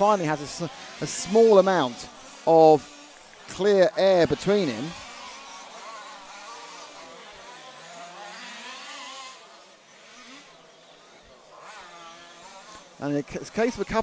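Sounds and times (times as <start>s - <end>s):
small two-stroke engines buzzing: 0.0s - 14.0s.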